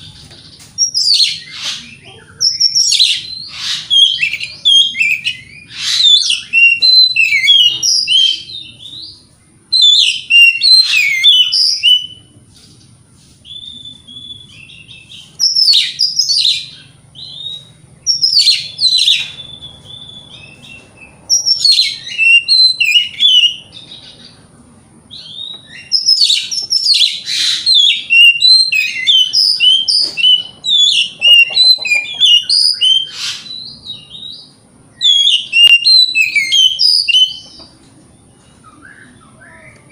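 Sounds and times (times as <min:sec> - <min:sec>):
songbird whistles and chirps: 0:00.0 - 0:12.3, 0:13.4 - 0:24.4, 0:25.1 - 0:39.9.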